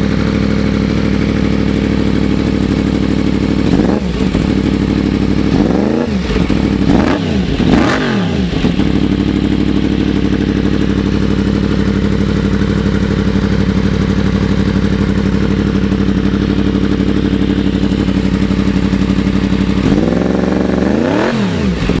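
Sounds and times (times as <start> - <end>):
motorcycle engine idling: 0.0 - 22.0
motorcycle engine revving: 0.0 - 22.0.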